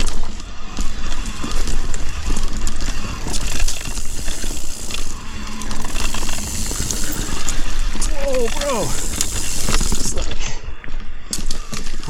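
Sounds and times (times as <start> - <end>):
tyres crunching over gravel: 0.0 - 10.4
bike rattling and clicking: 0.0 - 10.5.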